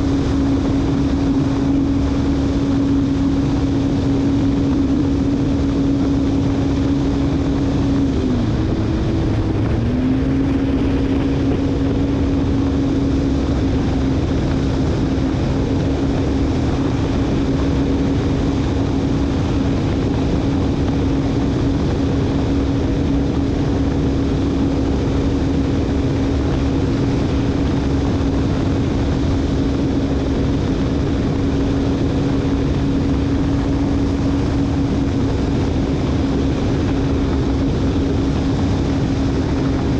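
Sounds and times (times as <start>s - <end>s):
jet ski engine at full throttle: 0.0s - 39.9s.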